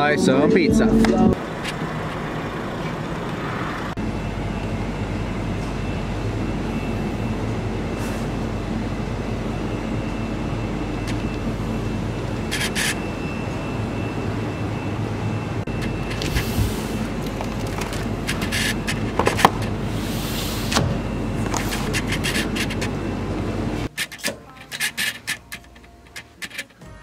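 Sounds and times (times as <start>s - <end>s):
refrigeration and ventilation hum: 0.0s - 27.0s.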